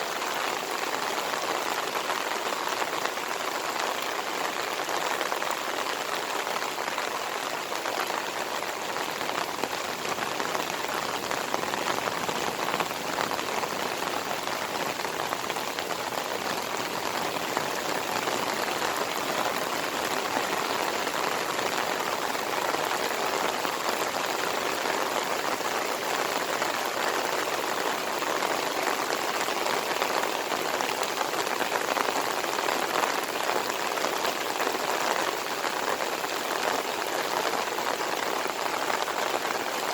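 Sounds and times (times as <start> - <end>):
rain pouring and pattering: 0.0 - 39.9.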